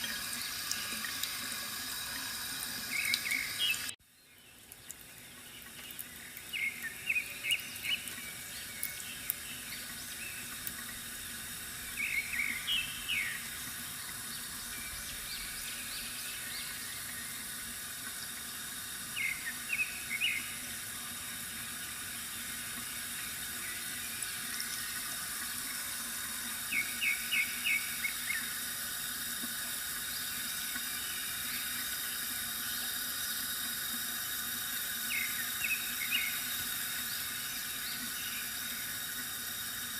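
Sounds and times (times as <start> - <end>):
water trickling from fountain: 0.0 - 39.9.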